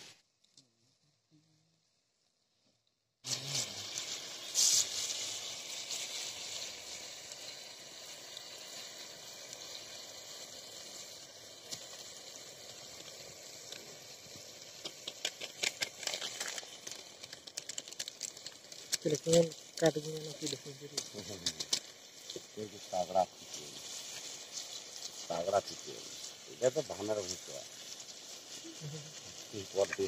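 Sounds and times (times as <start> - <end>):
food sizzling in a pan: 3.2 - 30.0
sharp clicks and crackles: 3.3 - 30.0.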